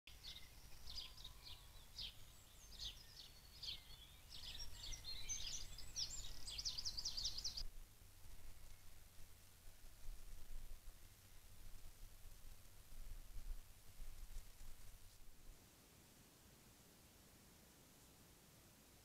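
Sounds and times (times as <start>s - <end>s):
songbird singing: 0.1s - 15.5s
low steady background rumble: 0.2s - 19.0s.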